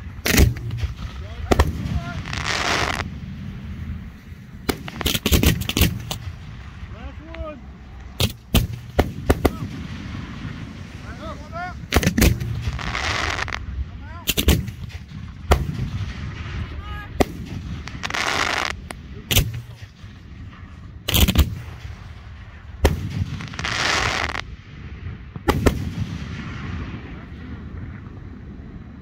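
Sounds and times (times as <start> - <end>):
firework shells booming: 0.0 - 28.4
firework crackling: 0.0 - 29.0.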